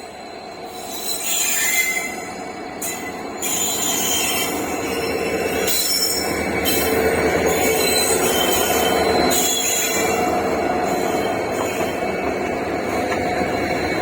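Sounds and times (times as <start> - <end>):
train rolling on track: 0.0 - 14.0
high-pitched squeal: 0.1 - 14.0.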